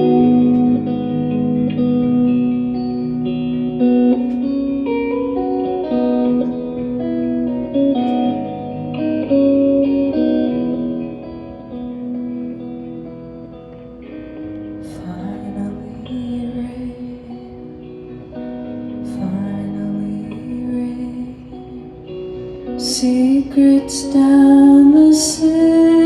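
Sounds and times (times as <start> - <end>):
guitar sustained effects notes: 0.0 - 26.0.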